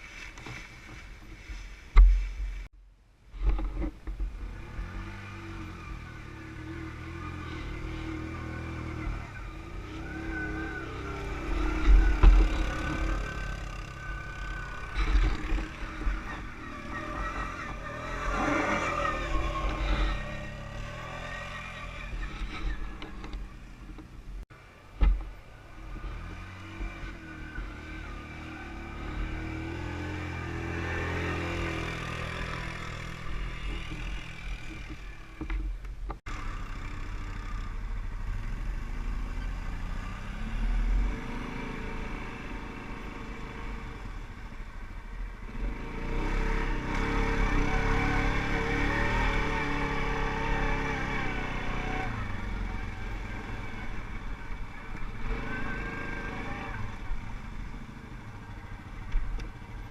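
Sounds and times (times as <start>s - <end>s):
quad bike engines revving: 3.4s - 24.2s, 25.0s - 59.9s.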